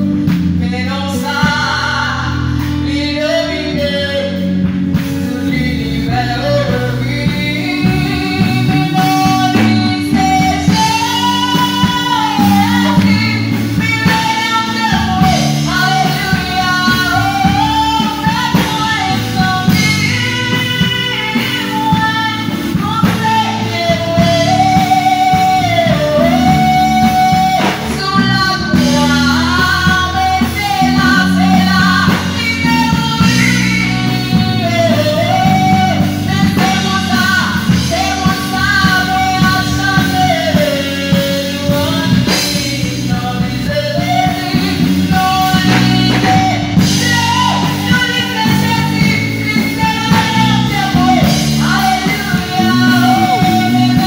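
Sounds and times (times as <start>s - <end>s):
instrumental accompaniment: 0.0s - 54.0s
person singing gospel song: 0.0s - 54.0s.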